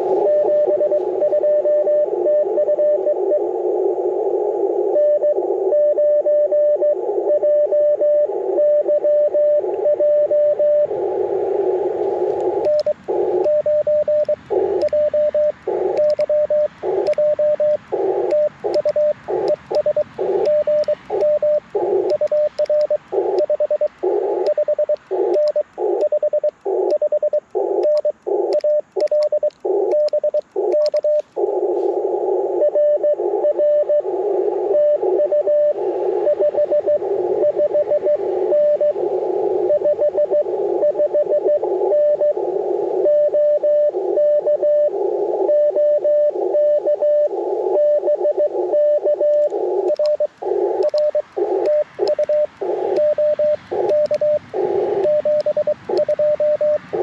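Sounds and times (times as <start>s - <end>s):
morse code tone: 0.0s - 3.5s, 4.9s - 57.0s
receiver hiss: 0.0s - 57.0s.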